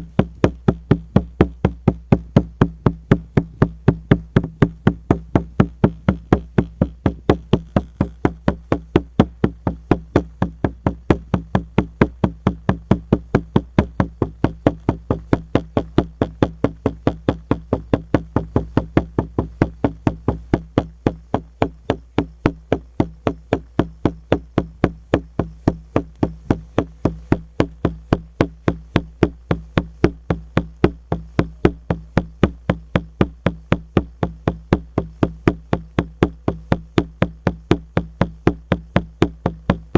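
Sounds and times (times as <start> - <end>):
frame drum beating: 0.0 - 39.9.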